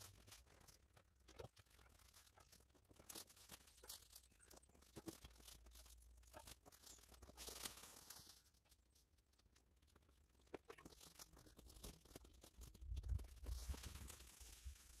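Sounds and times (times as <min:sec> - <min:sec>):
faint rustling and crackles: 0:00.0 - 0:15.0.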